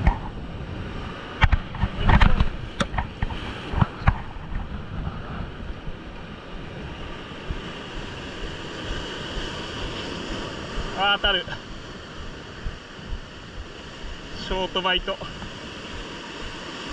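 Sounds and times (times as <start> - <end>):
sea surf washing over rocks: 0.0 - 16.9
wind buffeting microphone: 0.0 - 16.9.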